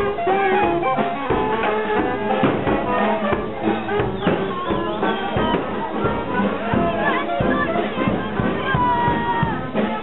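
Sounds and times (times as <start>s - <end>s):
brass band playing: 0.0s - 10.0s.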